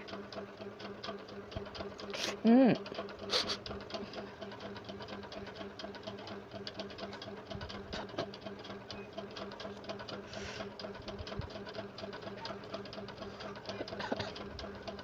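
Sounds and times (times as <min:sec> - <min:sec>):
rapid ticking: 0:00.0 - 0:15.0.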